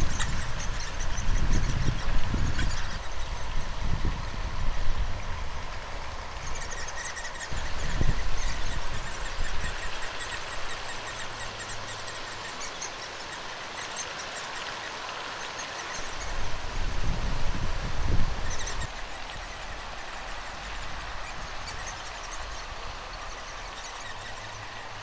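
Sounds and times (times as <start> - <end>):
nestlings begging calls: 0.0 - 25.0.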